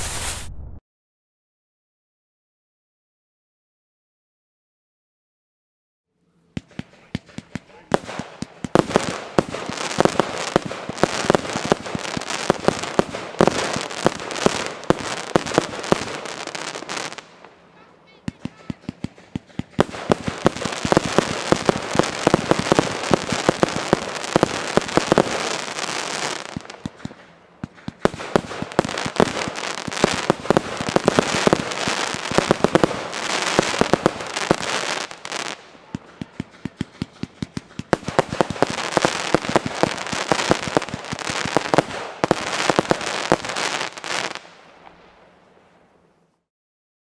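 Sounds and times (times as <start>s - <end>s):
firework shots crackling: 0.0s - 0.5s, 6.6s - 45.0s.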